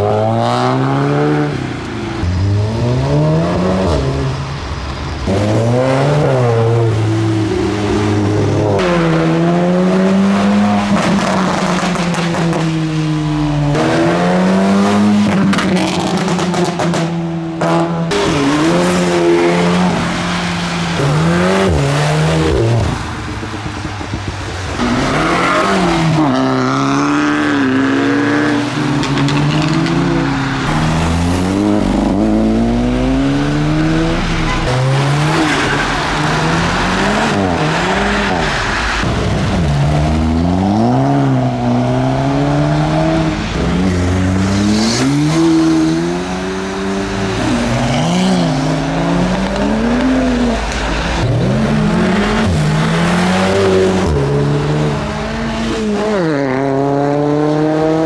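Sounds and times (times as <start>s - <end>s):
tyre noise on wet road: 0.0s - 57.2s
car engines revving: 0.0s - 58.0s.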